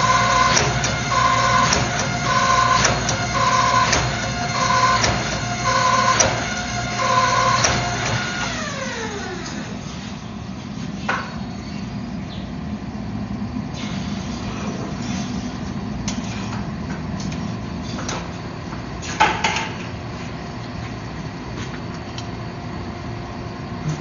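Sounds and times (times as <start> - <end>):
machinery drone: 0.0 - 24.0.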